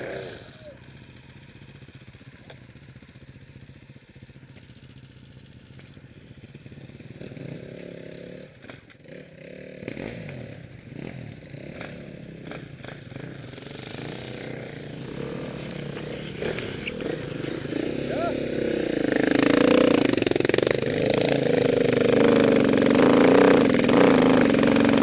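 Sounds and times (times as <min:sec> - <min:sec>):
motorcycle engine revving: 0:00.0 - 0:25.0
motorcycle engines idling: 0:00.0 - 0:25.0.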